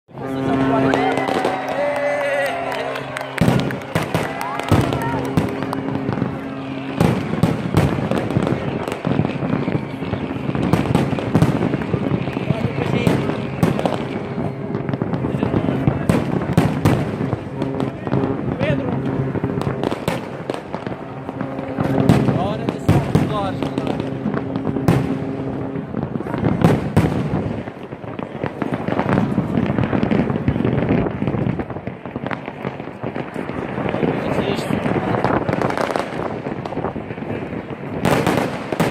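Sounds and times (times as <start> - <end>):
firework crackling: 0.1 - 38.9
firework shells bursting: 2.6 - 37.1.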